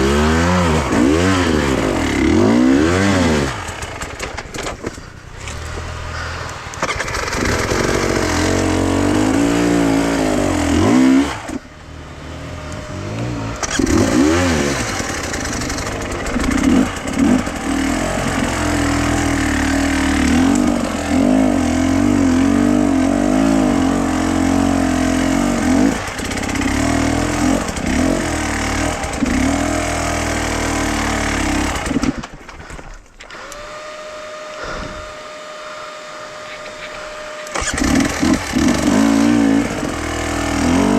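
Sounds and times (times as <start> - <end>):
vehicle engine revving: 0.0 - 32.2, 33.5 - 40.9.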